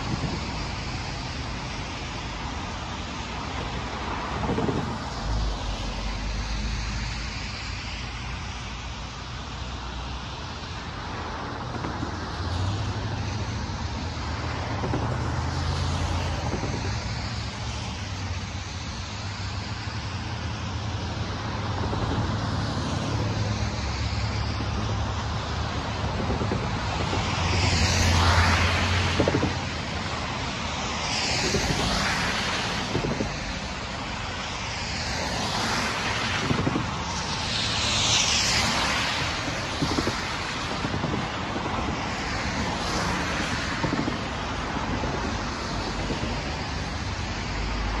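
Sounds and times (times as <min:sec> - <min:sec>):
car tyres hissing on wet road: 0:00.0 - 0:48.0.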